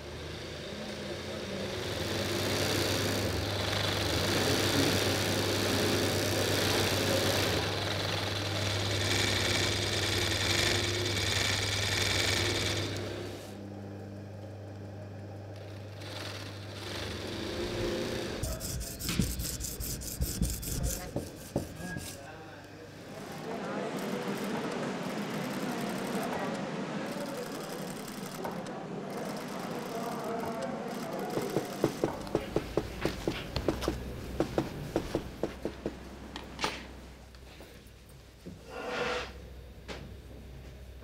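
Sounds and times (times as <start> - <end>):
embroidery machine running: 0.0 - 38.5.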